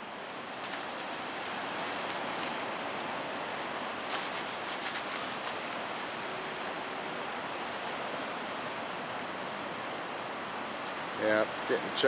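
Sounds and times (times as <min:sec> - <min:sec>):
ocean surf washing: 0:00.0 - 0:12.0.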